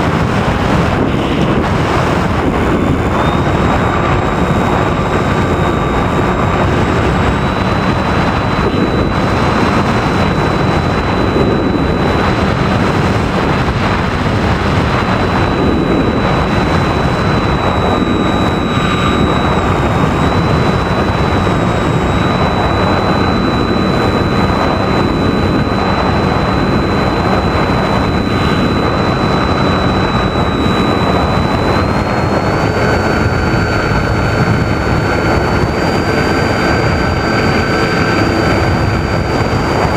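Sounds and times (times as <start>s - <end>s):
model airplane motor and propeller: 0.0s - 39.9s
wind rushing over airframe: 0.0s - 39.9s.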